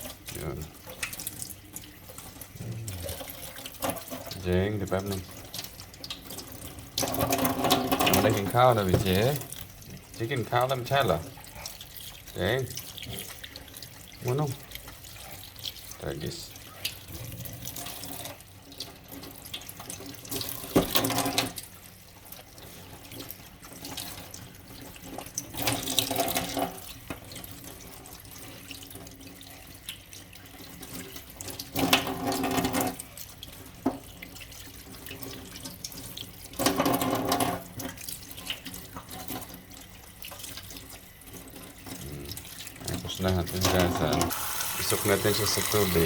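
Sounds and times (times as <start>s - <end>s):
tap water running into sink: 0.0s - 46.0s
water splashing: 0.0s - 46.0s.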